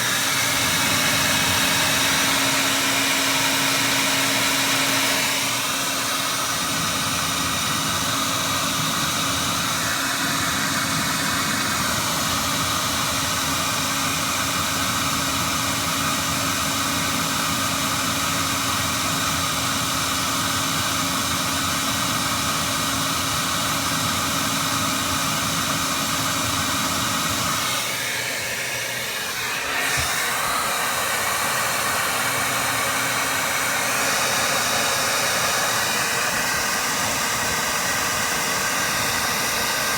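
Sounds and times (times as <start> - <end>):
electric motor and fan whirring: 0.0 - 39.9.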